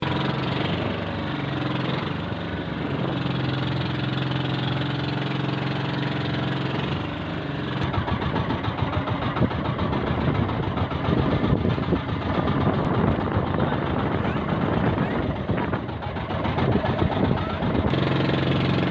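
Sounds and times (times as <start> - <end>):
boat motor running: 0.0 - 18.9.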